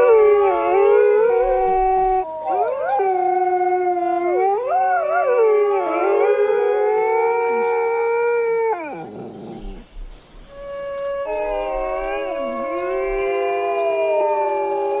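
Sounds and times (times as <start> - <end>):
coyotes howling: 0.0 - 9.8, 10.5 - 15.0.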